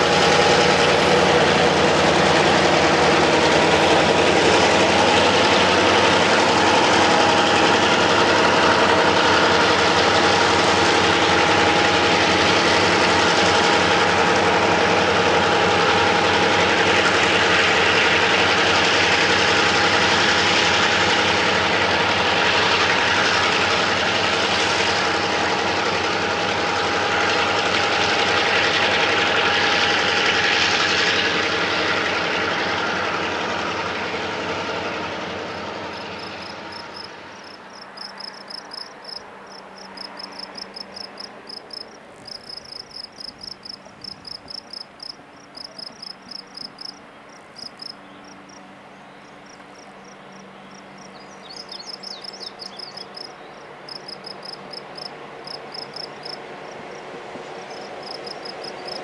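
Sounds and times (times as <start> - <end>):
diesel locomotive passing: 0.0 - 59.0.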